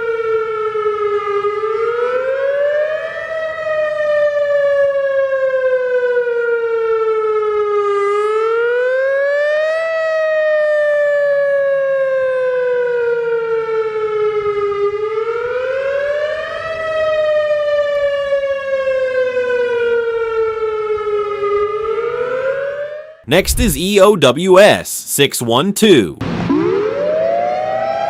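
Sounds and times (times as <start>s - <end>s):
warning siren wailing: 0.0s - 23.2s, 26.3s - 28.0s.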